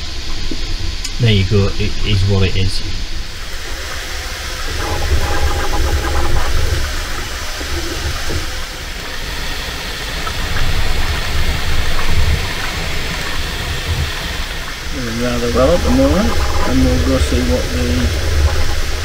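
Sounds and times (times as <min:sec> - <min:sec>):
printer hiss and rumble: 0:00.0 - 0:19.0.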